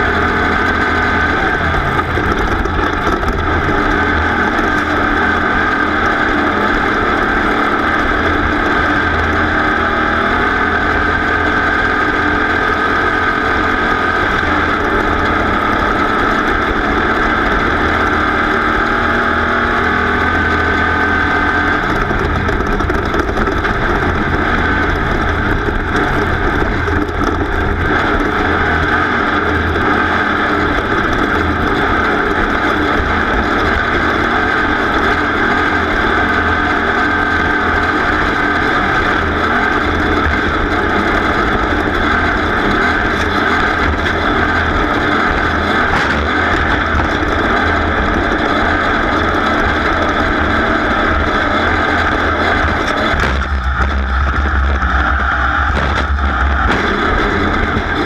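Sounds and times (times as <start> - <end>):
off-road vehicle engine running hard: 0.0 - 58.0.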